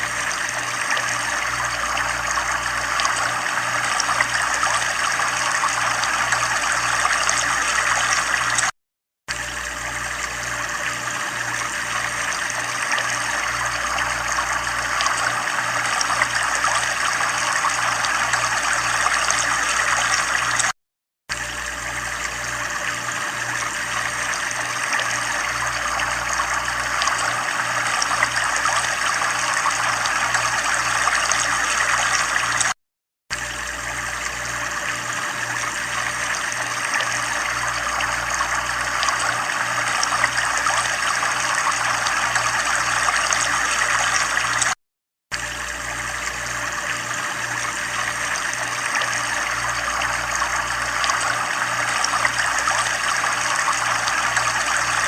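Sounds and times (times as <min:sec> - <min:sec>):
running trickling water: 0:00.0 - 0:08.7, 0:09.3 - 0:55.0.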